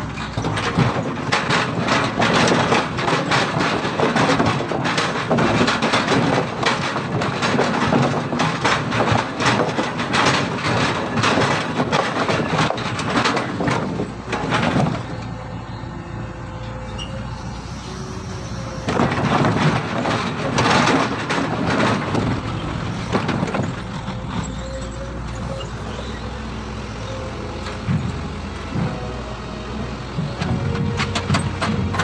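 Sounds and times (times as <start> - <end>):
grapple grinding logs: 0.0 - 15.4, 16.6 - 27.0
excavator engine running: 0.0 - 32.0.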